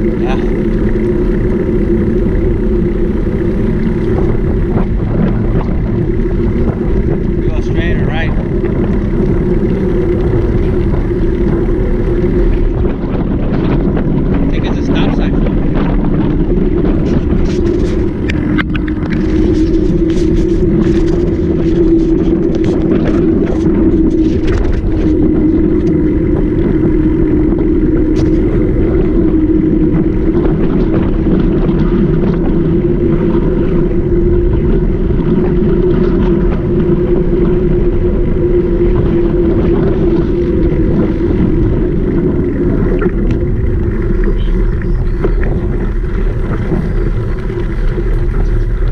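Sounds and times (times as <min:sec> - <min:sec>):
bike clicking and rattling: 0:00.0 - 0:48.9
bike tyres humming and rumbling: 0:00.0 - 0:48.9
wind over microphone: 0:00.0 - 0:48.9.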